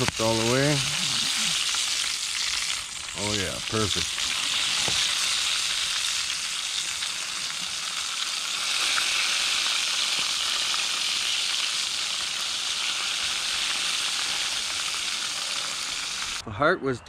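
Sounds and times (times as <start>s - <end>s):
meat sizzling in oil: 0.0s - 16.4s.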